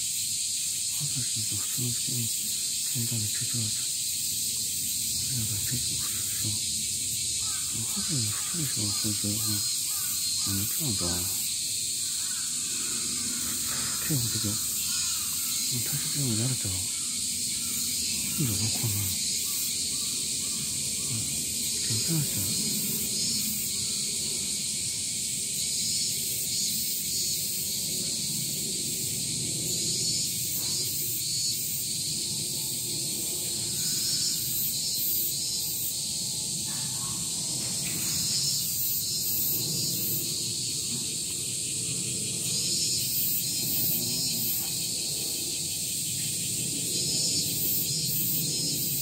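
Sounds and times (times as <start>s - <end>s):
insects shrilling: 0.0s - 49.0s.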